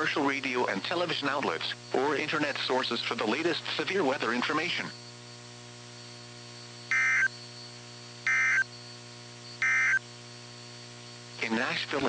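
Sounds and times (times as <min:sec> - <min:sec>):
buzzy digital data tones: 0:00.0 - 0:12.0.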